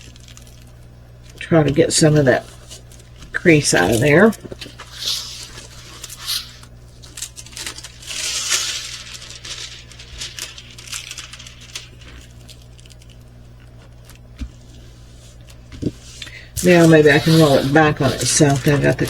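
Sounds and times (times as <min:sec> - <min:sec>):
plastic sheet rustling and crinkling: 0:00.0 - 0:19.0.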